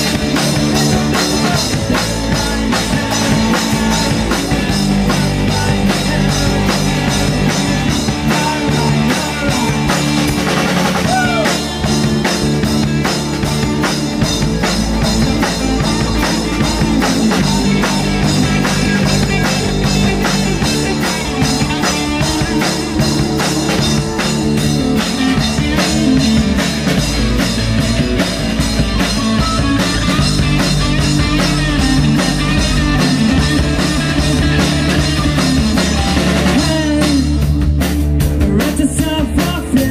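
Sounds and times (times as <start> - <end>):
electric bass: 0.0 - 39.9
electric guitar: 0.0 - 39.9.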